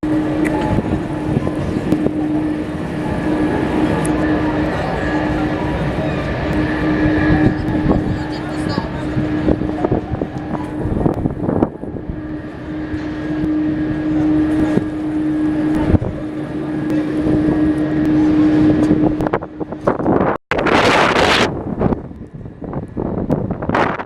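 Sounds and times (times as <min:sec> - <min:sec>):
jet engines droning: 0:00.0 - 0:24.0
wind buffeting microphone: 0:00.0 - 0:24.0.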